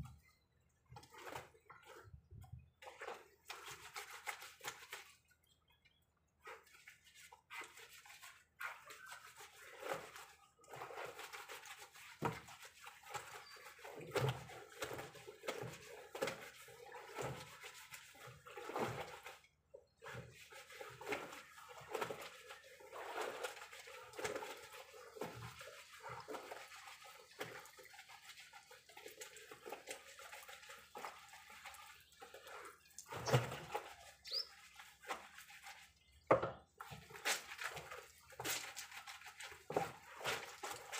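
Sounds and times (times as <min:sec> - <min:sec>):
water sloshing: 0:00.0 - 0:40.9.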